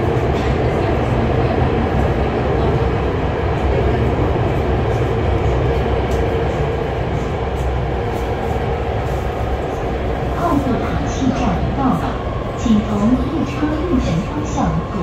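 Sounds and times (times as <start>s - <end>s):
train wheels rumbling in tunnel: 0.0s - 15.0s.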